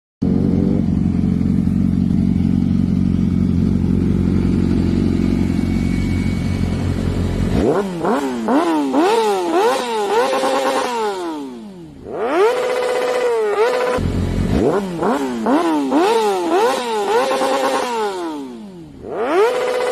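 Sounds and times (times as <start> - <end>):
motorcycle engine revving: 0.2 - 19.9.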